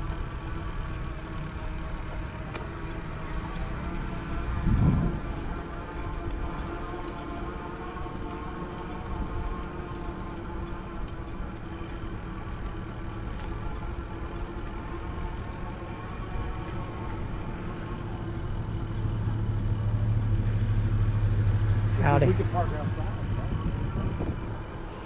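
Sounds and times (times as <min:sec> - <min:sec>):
engine running: 0:00.0 - 0:25.0
low hum: 0:00.0 - 0:25.0.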